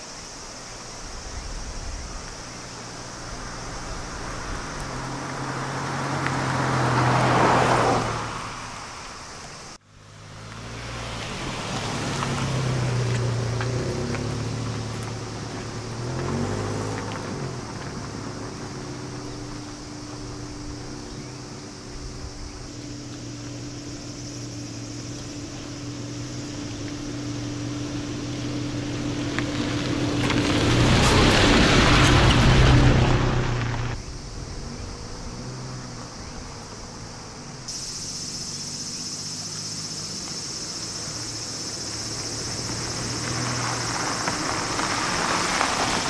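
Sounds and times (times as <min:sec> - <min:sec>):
van engine and tyre noise: 0:00.0 - 0:46.0.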